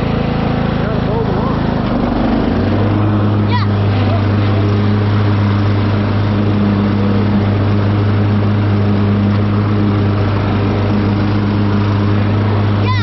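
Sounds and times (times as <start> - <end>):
riding lawn mower engine droning: 0.0 - 13.0.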